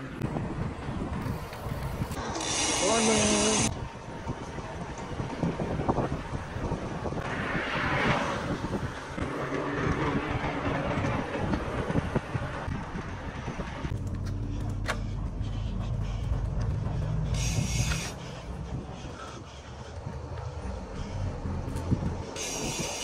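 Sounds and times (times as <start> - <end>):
bicycle riding noise: 0.0 - 23.0
wind noise on microphone: 0.0 - 23.0.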